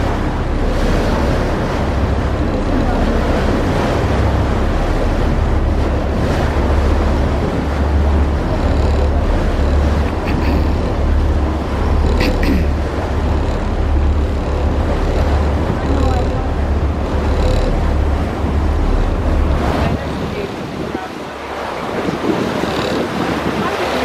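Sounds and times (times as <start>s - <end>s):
ferry engines rumbling: 0.0s - 24.0s
water noise: 0.0s - 24.0s
wind noise: 0.0s - 24.0s.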